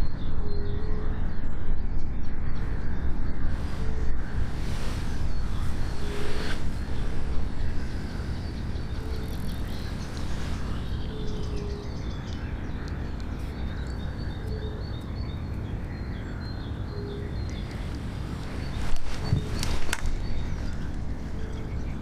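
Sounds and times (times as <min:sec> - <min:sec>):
low background rumble: 0:00.0 - 0:22.0
birds calling: 0:02.3 - 0:22.0.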